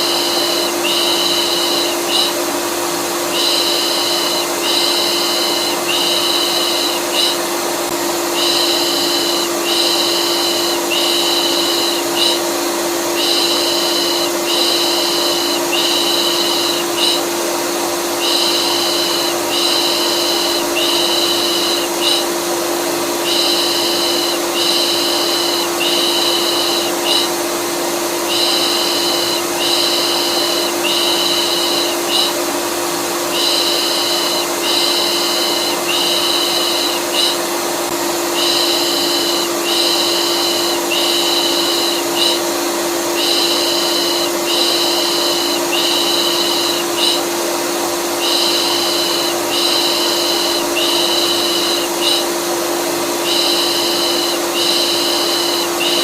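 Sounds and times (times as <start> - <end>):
vacuum cleaner motor humming: 0.0 - 56.0.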